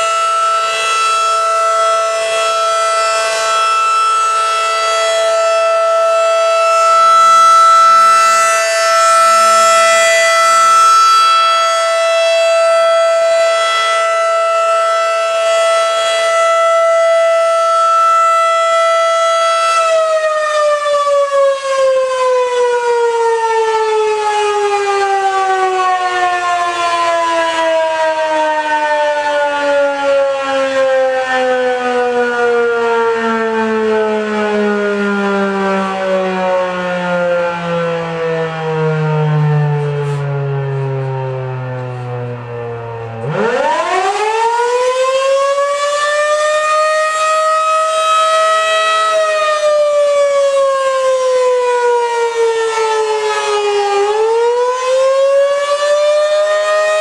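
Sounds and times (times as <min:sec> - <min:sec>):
mechanical warning siren: 0:00.0 - 0:57.0
siren winding down: 0:00.0 - 0:57.0.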